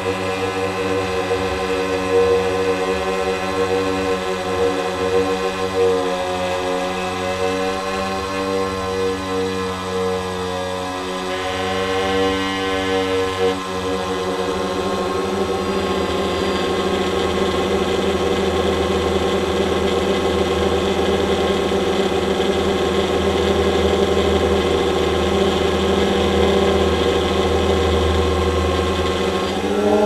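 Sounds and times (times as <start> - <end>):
drone propellers humming: 0.0 - 30.0.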